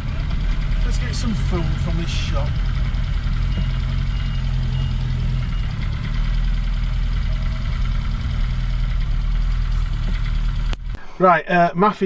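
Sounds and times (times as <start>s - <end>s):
car engine running steadily: 0.0s - 11.2s.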